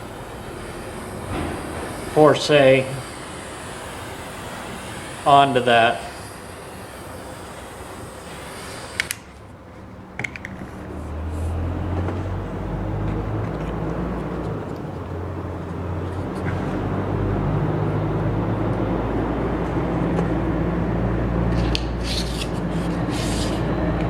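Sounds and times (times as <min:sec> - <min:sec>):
torch clicks: 0:00.0 - 0:20.8, 0:21.4 - 0:24.0
handheld torch hissing: 0:00.0 - 0:24.0
low engine-like drone: 0:00.0 - 0:24.0.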